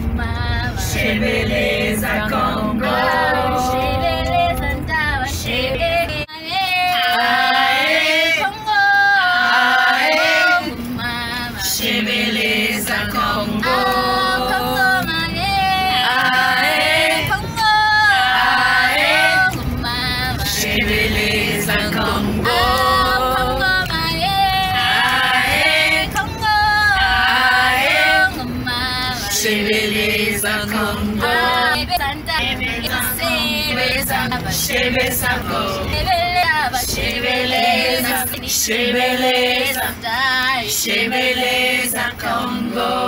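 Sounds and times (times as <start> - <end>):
bus rumble: 0.0 - 43.0
women singing together: 0.0 - 43.0.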